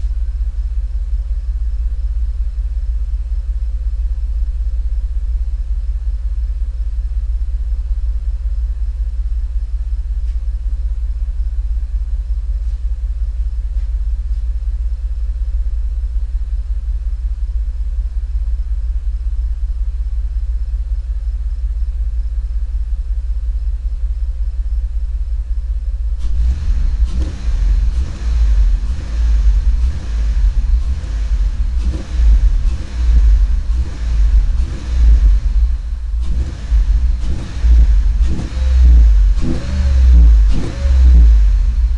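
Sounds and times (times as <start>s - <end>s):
car engine rumbling unevenly: 0.0s - 41.9s.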